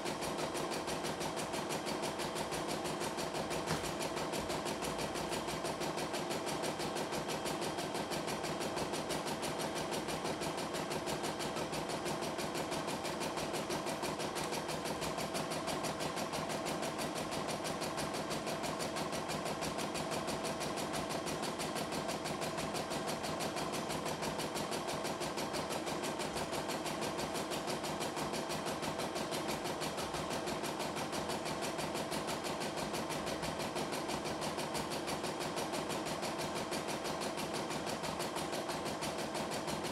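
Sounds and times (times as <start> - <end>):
embroidery machine needle stitching: 0.1 - 39.9.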